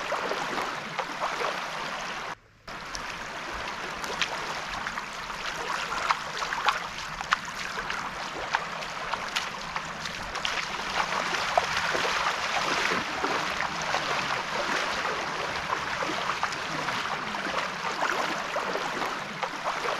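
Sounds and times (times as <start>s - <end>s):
sea water lapping at shore: 0.0s - 19.9s
small splashes: 0.0s - 19.9s.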